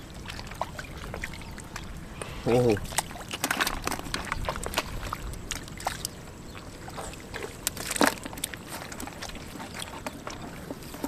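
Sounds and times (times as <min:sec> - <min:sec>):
hands squelching in wet mud: 0:00.0 - 0:11.0.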